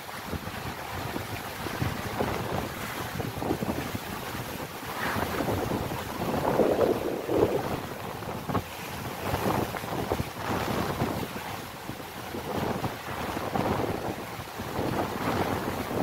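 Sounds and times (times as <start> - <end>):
choppy sea washing against quay: 0.0 - 16.0
strong wind gusting on microphone: 0.0 - 16.0.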